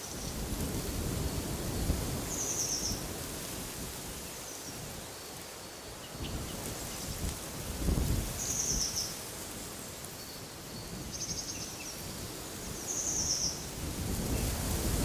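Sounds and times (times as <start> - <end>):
wind gusting: 0.0 - 5.2, 6.1 - 9.8, 10.6 - 15.0.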